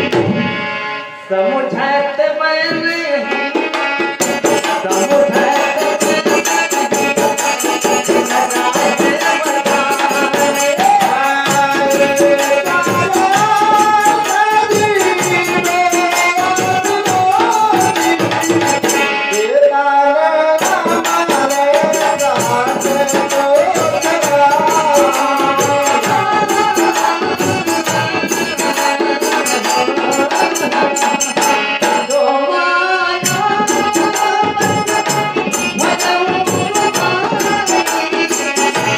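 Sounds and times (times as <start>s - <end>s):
hand percussion: 0.0s - 0.7s, 2.8s - 19.6s, 20.4s - 38.9s
person singing: 1.3s - 38.9s.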